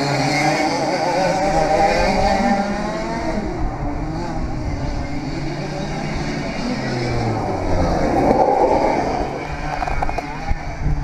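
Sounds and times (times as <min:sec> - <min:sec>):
kart engines accelerating and passing: 0:00.0 - 0:11.0.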